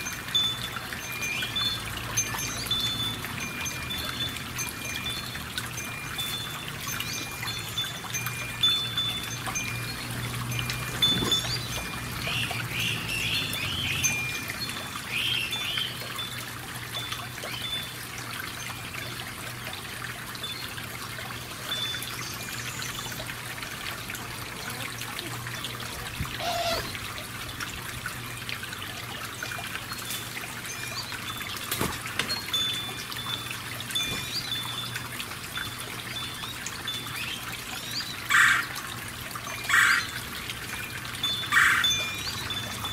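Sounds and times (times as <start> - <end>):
water trickling and splashing: 0.0 - 42.9.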